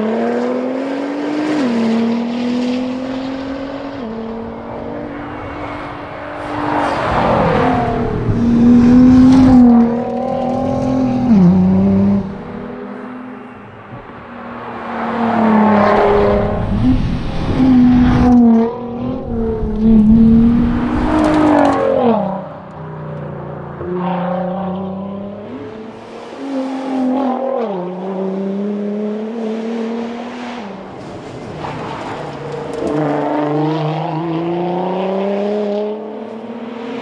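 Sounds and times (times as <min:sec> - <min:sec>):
car engine accelerating hard: 0:00.0 - 0:37.0.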